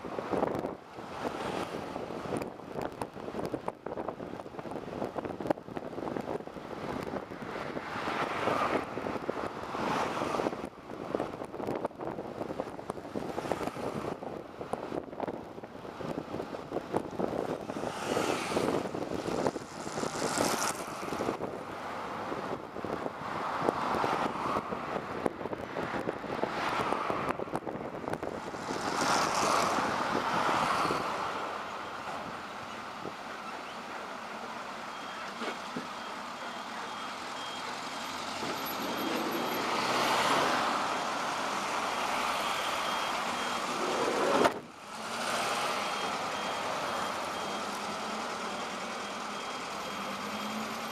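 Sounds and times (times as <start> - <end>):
bus engine and road noise: 0.0 - 50.9.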